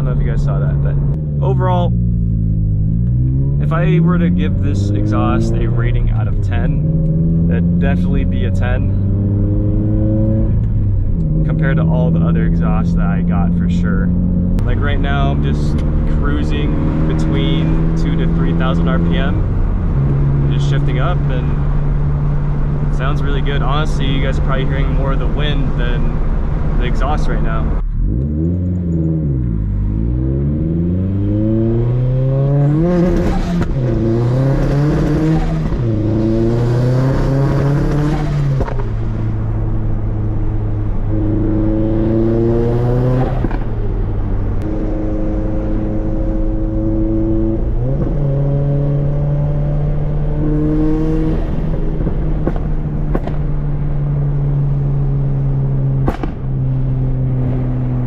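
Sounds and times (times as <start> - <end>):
car engine revving through upshifts: 0.0 - 58.0.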